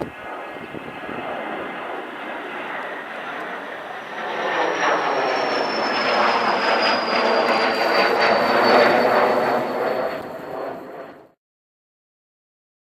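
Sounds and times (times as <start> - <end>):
jet roaring with high whine: 0.0 - 11.4.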